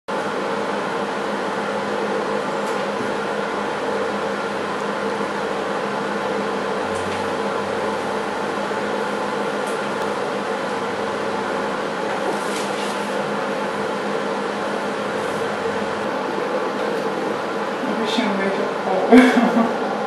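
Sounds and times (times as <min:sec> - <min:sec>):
fan-like machine hum: 0:00.1 - 0:20.0.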